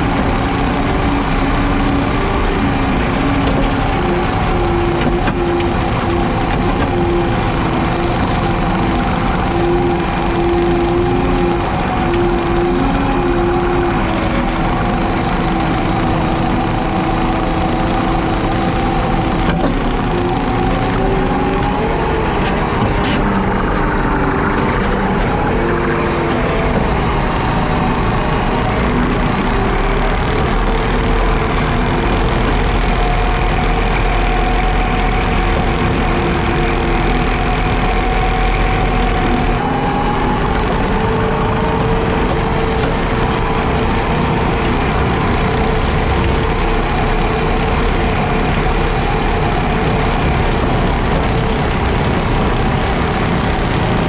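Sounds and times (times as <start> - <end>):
diesel engine running: 0.0 - 54.0
rotary mower: 0.0 - 54.0.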